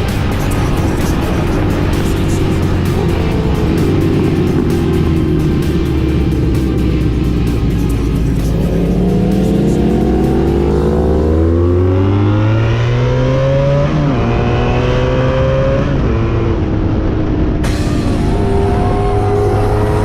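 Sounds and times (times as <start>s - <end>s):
motorcycle engine accelerating hard: 0.0s - 20.0s.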